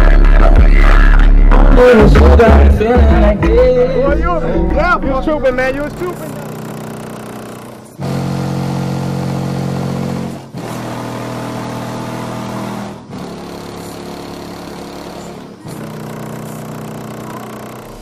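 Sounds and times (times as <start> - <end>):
heavy distorted subwoofer bass: 0.0 - 18.0.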